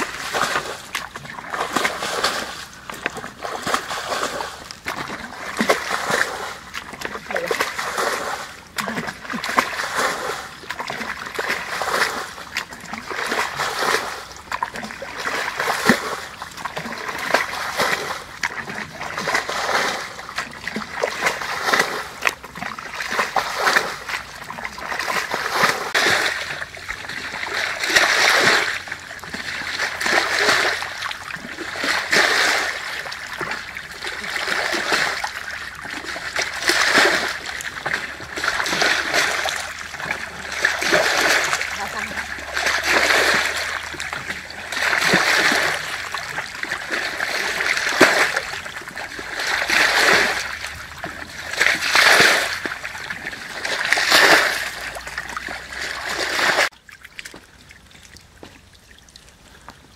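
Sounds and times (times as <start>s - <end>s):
rush of water: 0.0s - 59.9s
water splashing and sloshing: 0.0s - 59.9s.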